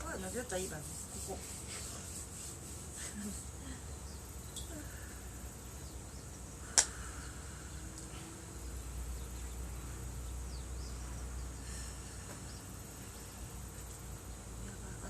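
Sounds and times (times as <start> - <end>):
insects chirring: 1.8 - 15.0.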